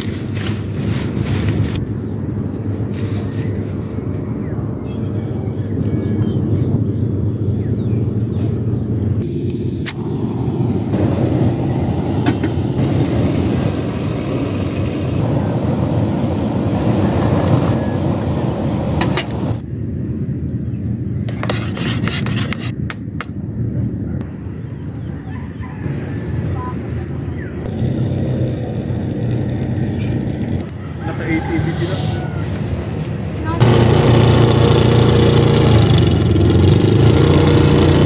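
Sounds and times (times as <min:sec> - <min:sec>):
low rumbling noise: 0:00.0 - 0:21.3, 0:23.4 - 0:38.0.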